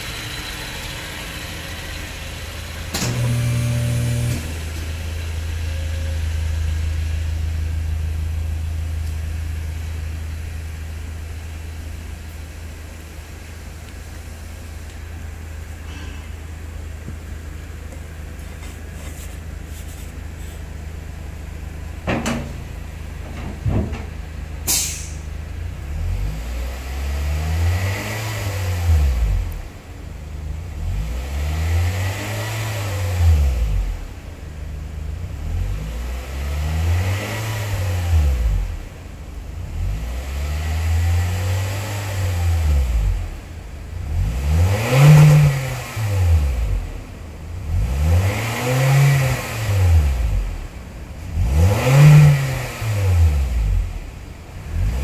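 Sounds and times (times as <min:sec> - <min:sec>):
engine idling and revving: 0:00.0 - 0:55.0.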